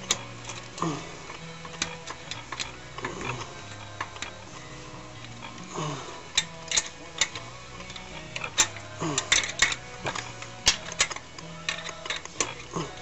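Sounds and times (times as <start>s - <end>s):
wrench clicking on metal nuts: 0.0s - 4.5s, 5.2s - 13.0s.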